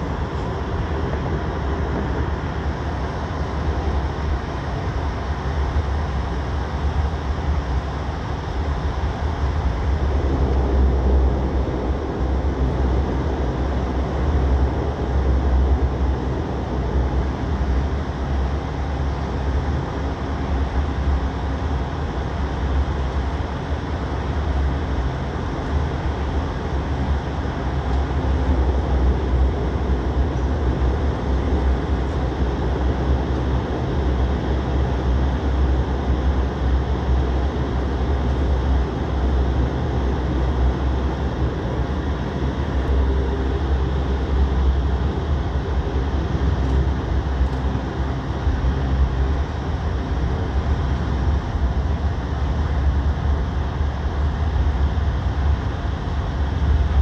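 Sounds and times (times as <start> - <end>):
airliner cabin rumble: 0.0 - 57.0
faint hum: 0.0 - 57.0.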